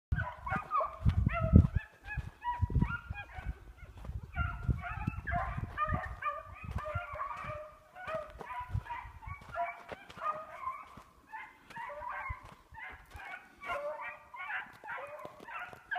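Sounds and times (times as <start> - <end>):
beagles baying: 0.1 - 15.9.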